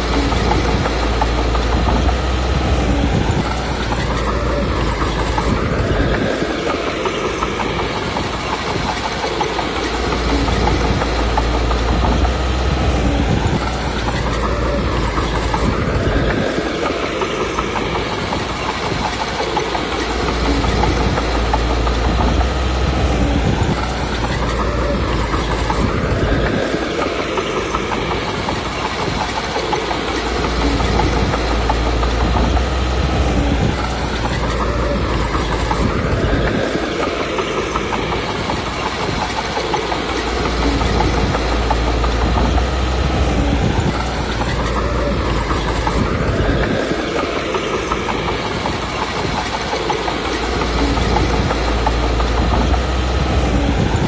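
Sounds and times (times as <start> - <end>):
bulldozer diesel engine: 0.0 - 54.0
track clatter: 0.0 - 54.0.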